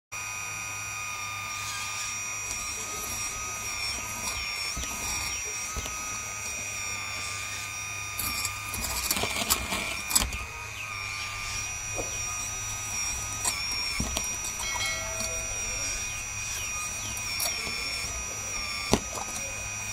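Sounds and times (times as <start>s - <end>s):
pump motor whining: 0.2s - 19.9s.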